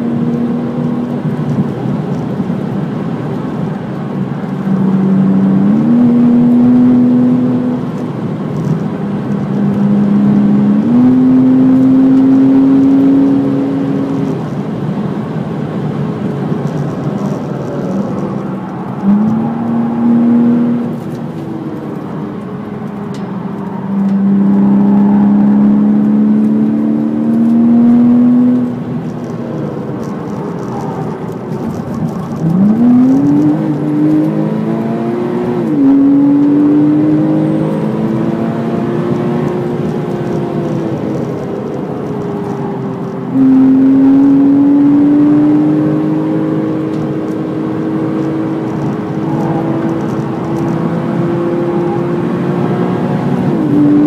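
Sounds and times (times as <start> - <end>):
car engine pulling hard: 0.0 - 54.0
road and wind noise: 0.0 - 54.0.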